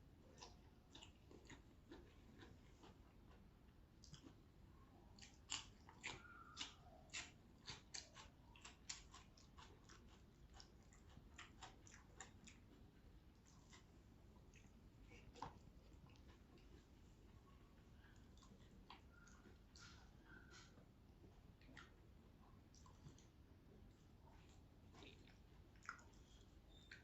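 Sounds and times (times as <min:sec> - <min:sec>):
person chewing food: 0:00.1 - 0:27.0.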